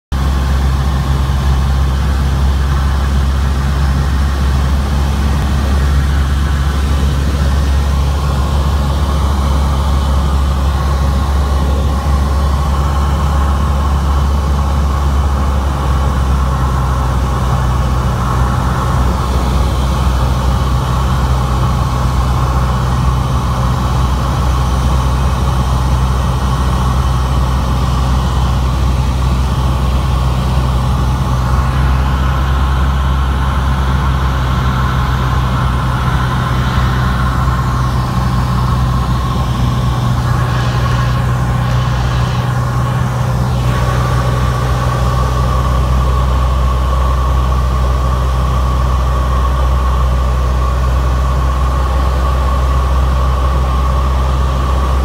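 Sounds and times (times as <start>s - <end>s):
propeller plane engine droning: 0.1s - 55.0s.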